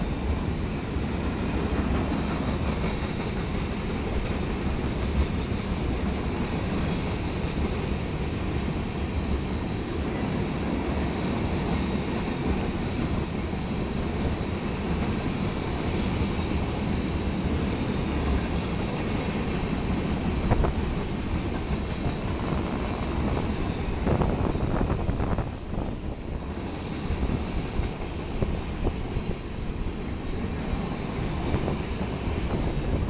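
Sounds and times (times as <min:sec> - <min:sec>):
steel wheels rumbling on rail: 0:00.0 - 0:33.0.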